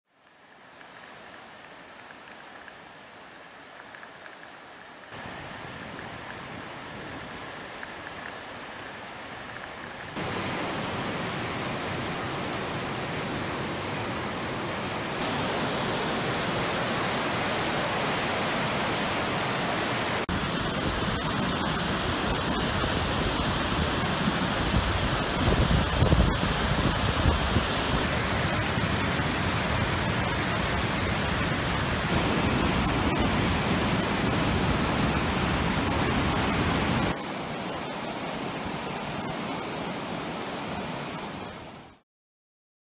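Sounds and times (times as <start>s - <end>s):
river water rushing: 4.4s - 42.0s.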